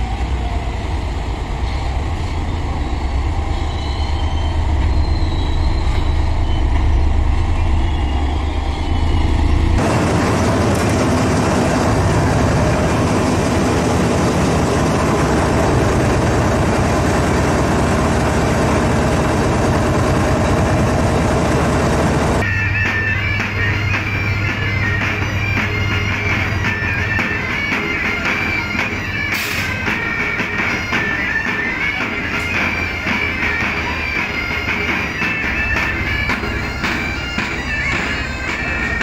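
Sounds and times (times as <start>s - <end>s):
diesel locomotive engine rumble: 0.0s - 39.0s
rushing noise aboard moving train: 0.0s - 39.0s.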